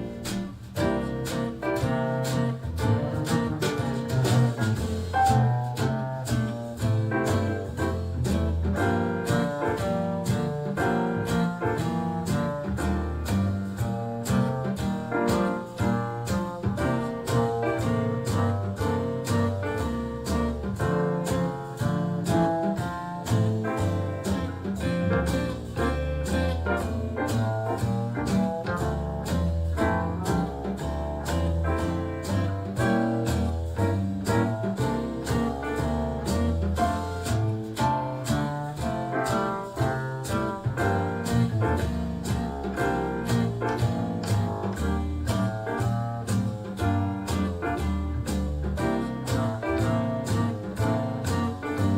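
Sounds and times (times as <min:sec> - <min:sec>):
music with steady beat and bass: 0:00.0 - 0:51.9.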